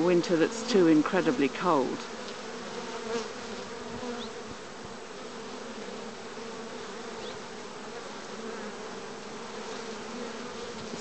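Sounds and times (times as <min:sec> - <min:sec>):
honey bees humming: 0:00.0 - 0:11.0.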